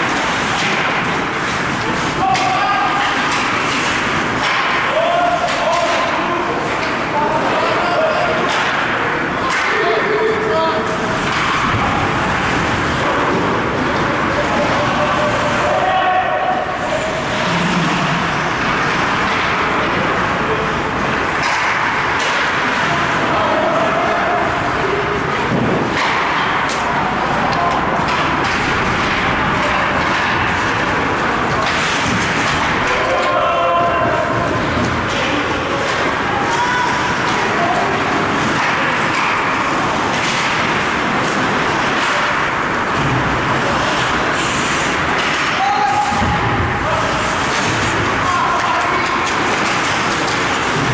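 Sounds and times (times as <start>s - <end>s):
ice hockey arena din: 0.0s - 50.9s.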